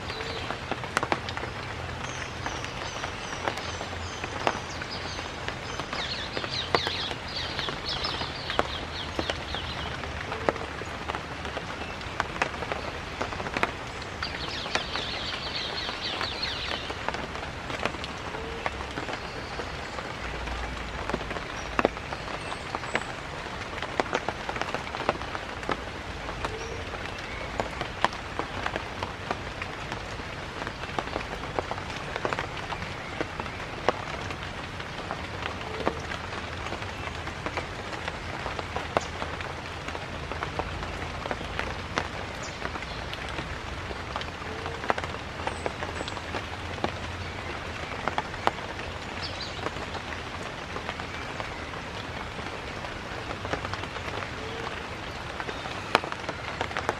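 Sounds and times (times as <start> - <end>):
rain dripping on leaves: 0.0 - 56.9.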